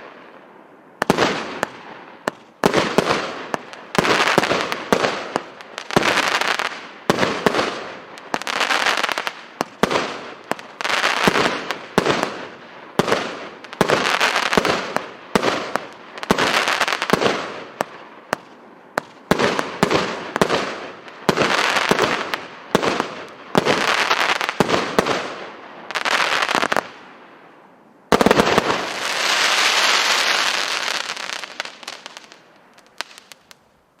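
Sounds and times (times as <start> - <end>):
fireworks launching: 1.0 - 27.0, 28.1 - 33.6
crackle of firework bursts: 1.0 - 27.2, 28.1 - 34.0.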